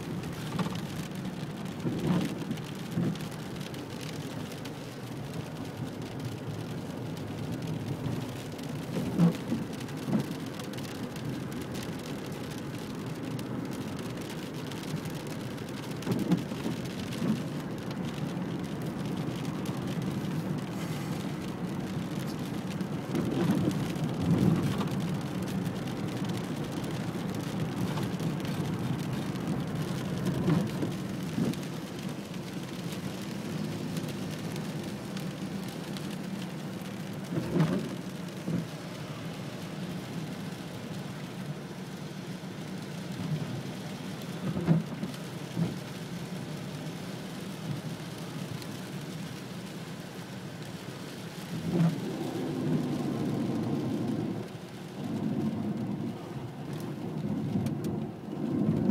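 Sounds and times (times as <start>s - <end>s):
short louder rain hits: 0.0s - 58.9s
steady rain falling: 0.0s - 58.9s.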